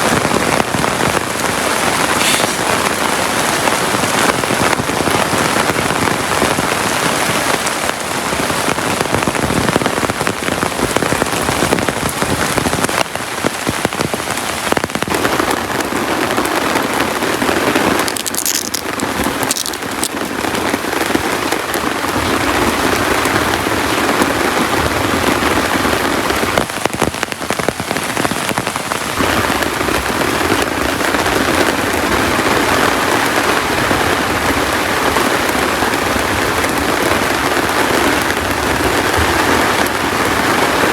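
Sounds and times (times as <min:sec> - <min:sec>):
heavy rain falling: 0:00.0 - 0:40.9
sharp loud raindrop taps: 0:00.0 - 0:40.9.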